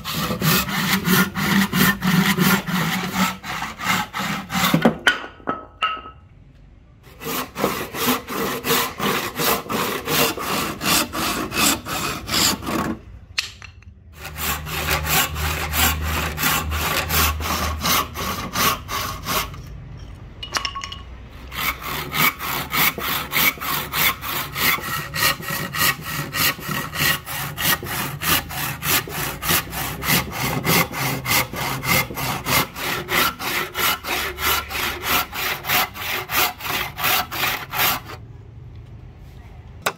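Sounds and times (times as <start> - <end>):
hand saw cutting wood: 0.0 - 5.0, 7.1 - 13.0, 14.2 - 19.8, 21.4 - 38.2.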